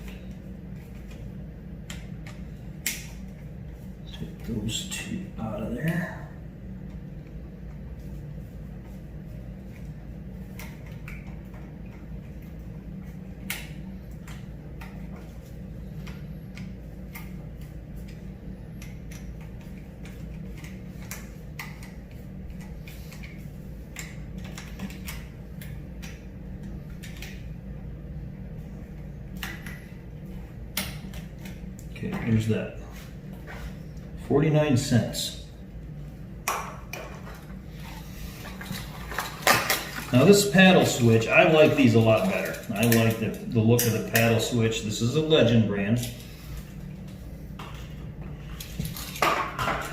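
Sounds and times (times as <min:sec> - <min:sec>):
low hum: 0:00.0 - 0:49.9.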